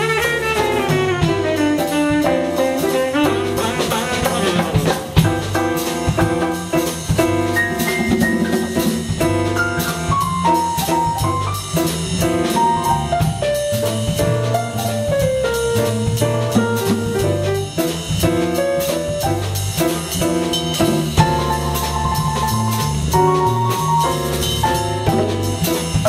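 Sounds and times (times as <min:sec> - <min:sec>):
drum kit: 0:00.0 - 0:26.0
electric bass: 0:00.0 - 0:26.0
piano melody: 0:00.0 - 0:26.0.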